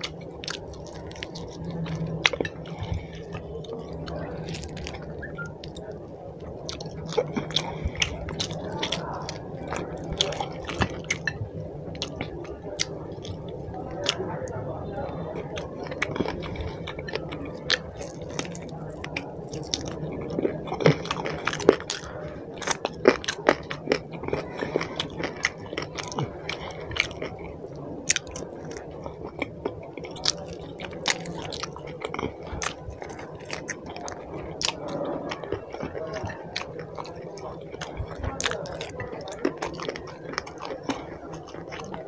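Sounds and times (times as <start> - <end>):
person chewing food: 0.0 - 14.2, 15.4 - 42.0.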